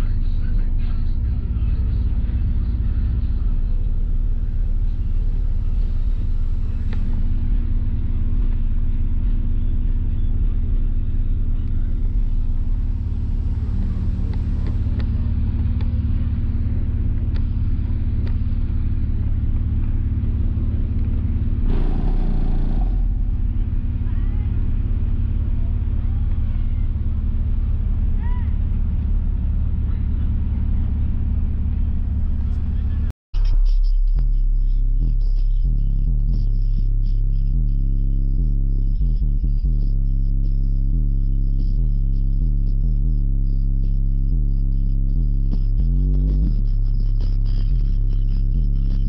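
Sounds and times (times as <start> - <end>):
deep bass music from car: 0.0 - 49.0.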